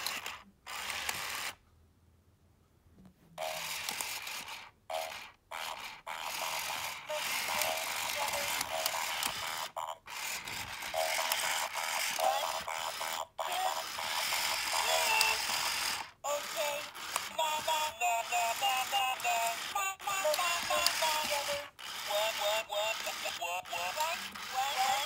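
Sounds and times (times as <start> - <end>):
toy robot crackly hissing noise: 0.0 - 1.6, 3.5 - 25.0.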